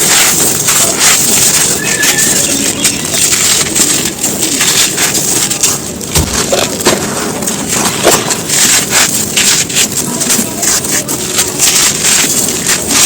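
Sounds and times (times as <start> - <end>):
dry mud chunks crunching: 0.0 - 13.0.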